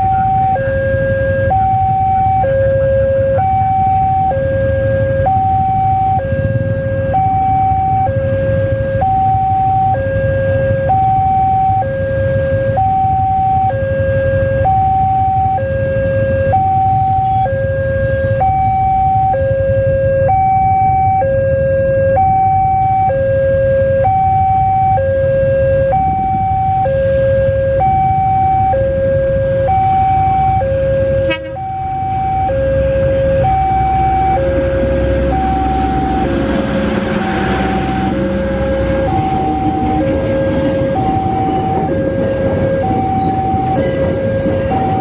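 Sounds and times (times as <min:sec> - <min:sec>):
level crossing two-tone alarm: 0:00.0 - 0:45.0.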